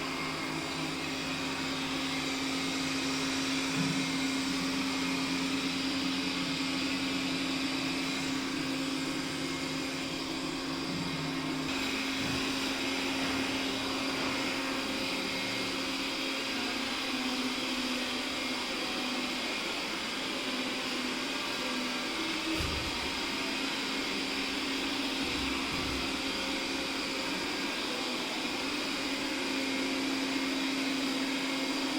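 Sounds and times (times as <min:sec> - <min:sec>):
robot vacuum cleaner running: 0:00.0 - 0:31.9.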